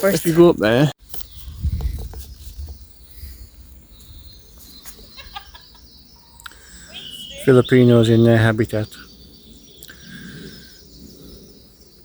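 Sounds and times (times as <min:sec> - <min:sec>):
faint bird calls: 0:01.2 - 0:12.0.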